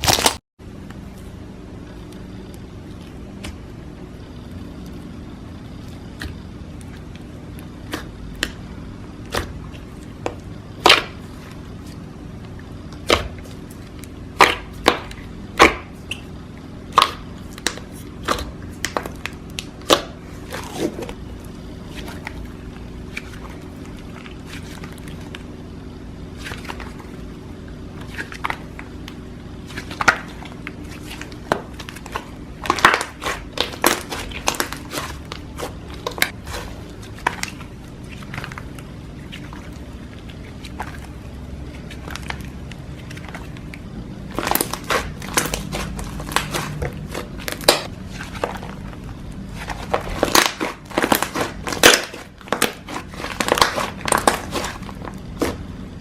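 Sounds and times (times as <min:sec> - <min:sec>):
faint low hum: 0:00.1 - 0:56.0.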